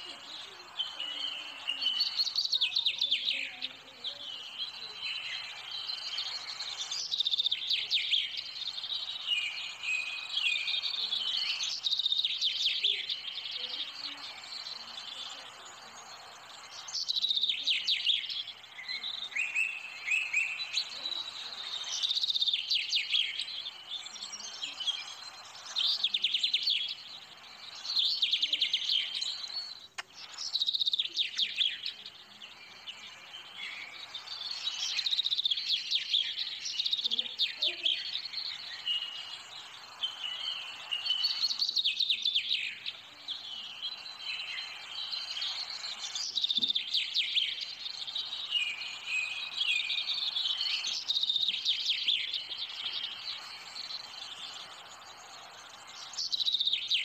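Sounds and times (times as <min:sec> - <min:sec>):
birds chirping in high trills: 0:00.0 - 0:57.0.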